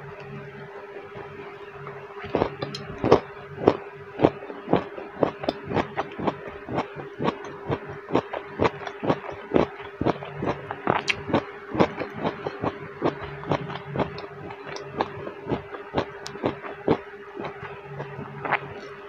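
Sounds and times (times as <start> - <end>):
steady low hum: 0.0 - 19.0
crunchy chewing: 2.2 - 19.0.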